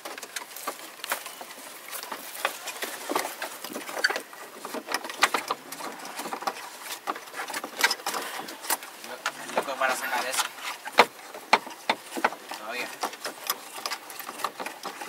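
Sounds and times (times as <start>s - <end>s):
vehicle clicks and scrapes on trail: 0.0s - 15.0s.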